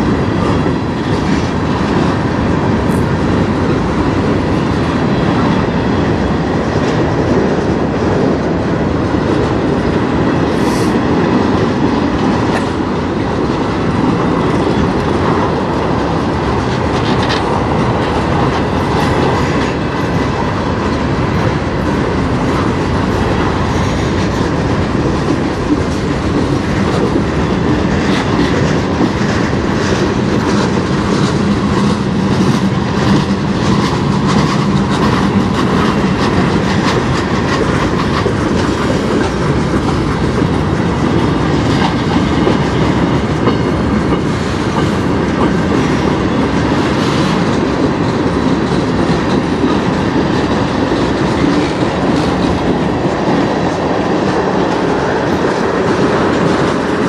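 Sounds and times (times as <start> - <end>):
train wheels rumbling: 0.0 - 57.0
wheels clicking over rail joints: 11.3 - 57.0.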